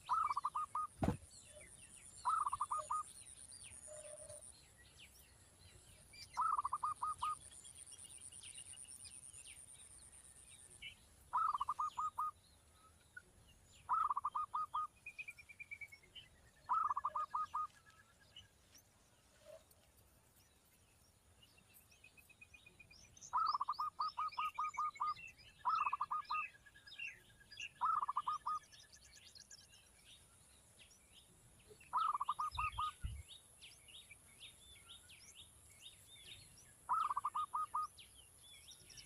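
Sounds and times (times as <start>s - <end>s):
faint bird chirps: 0.0s - 39.0s.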